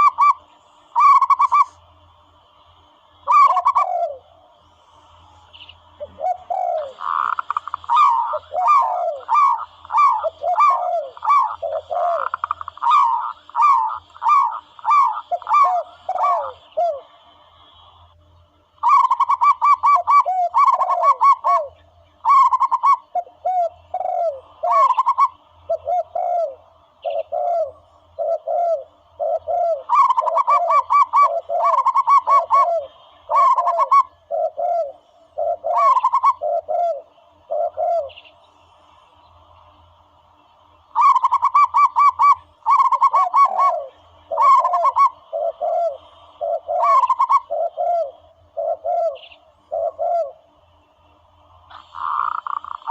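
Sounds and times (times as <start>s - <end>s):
dove calls cooing: 0.0s - 18.1s, 18.7s - 52.9s.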